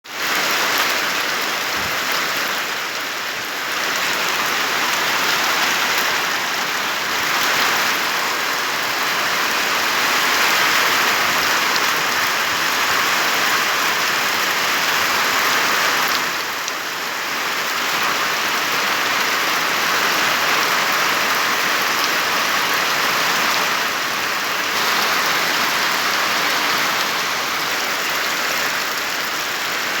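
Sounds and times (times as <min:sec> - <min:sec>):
steady rain falling: 0:00.1 - 0:30.0.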